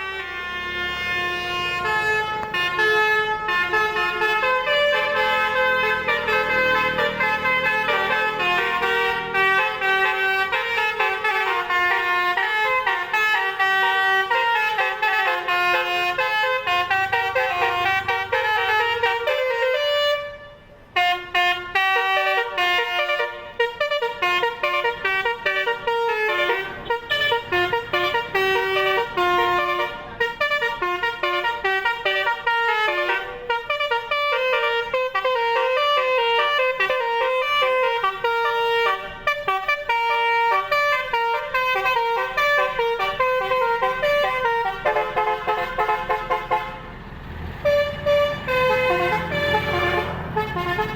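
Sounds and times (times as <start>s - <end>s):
multi-tone bus horn tune: 0.0s - 50.9s.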